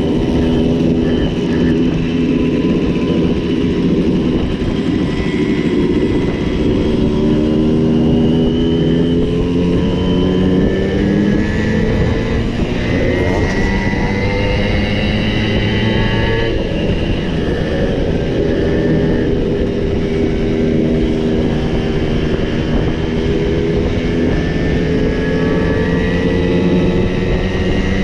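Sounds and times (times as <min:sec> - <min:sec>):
two-stroke moped engines accelerating: 0:00.0 - 0:28.0.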